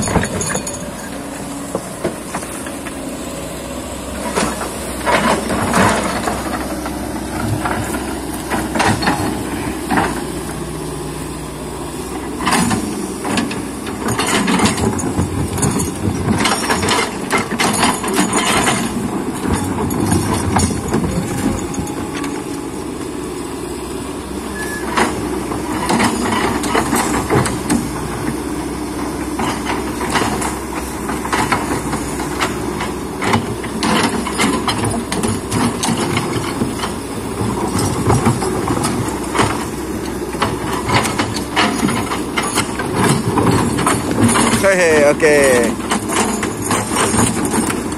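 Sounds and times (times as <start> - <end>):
sharp knocks and rattles: 0.0 - 3.2, 4.0 - 10.4, 12.1 - 22.5, 24.9 - 47.9
excavator diesel engine running: 0.0 - 47.9.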